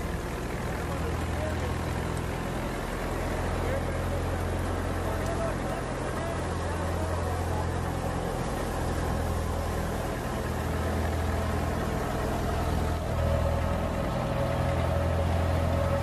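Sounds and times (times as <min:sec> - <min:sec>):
thresher machine drone: 0:00.0 - 0:16.0.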